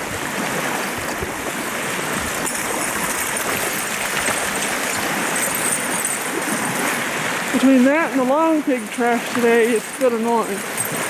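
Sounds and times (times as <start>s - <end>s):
small waves washing ashore: 0.0s - 11.0s.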